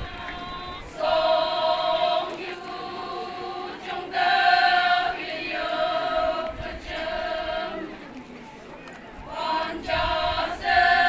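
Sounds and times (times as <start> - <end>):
women chanting in unison: 0.0 - 8.1, 9.2 - 11.0.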